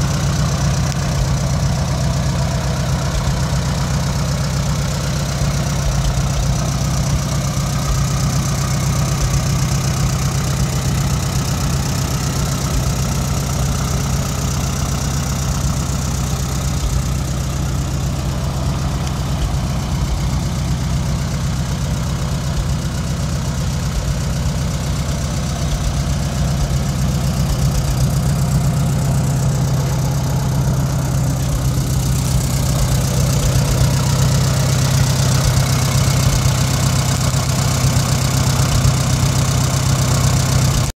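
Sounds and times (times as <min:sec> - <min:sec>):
tractor engine idling: 0:00.0 - 0:41.0.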